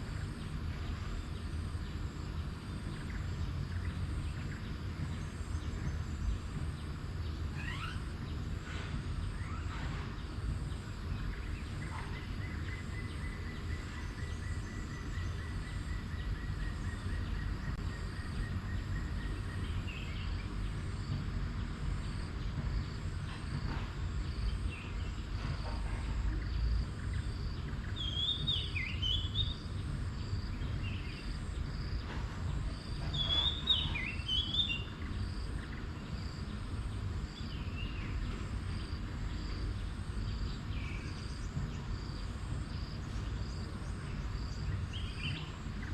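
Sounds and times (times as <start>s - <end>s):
birds calling: 0.0s - 45.9s
insects humming: 0.0s - 45.9s.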